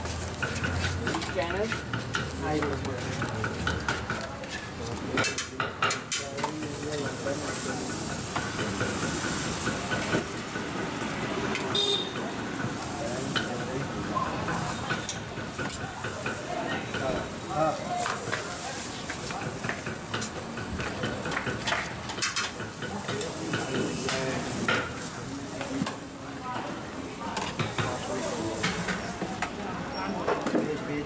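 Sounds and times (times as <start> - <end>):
butter sizzling on griddle: 0.0 - 30.0.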